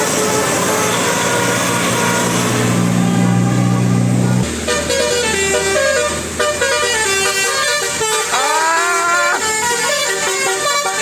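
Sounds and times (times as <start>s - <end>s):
musical air horn melody: 0.0s - 11.0s.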